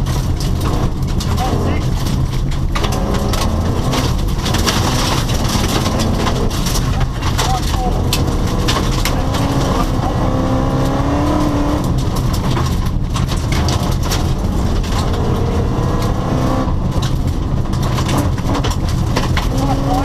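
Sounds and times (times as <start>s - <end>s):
engine crackles: 0.0s - 20.0s
rally car engine revving: 0.0s - 20.0s.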